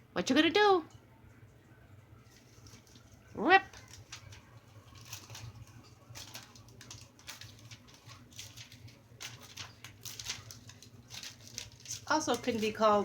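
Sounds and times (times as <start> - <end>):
faint low hum: 0.0 - 13.0
bird tearing paper: 2.3 - 13.0.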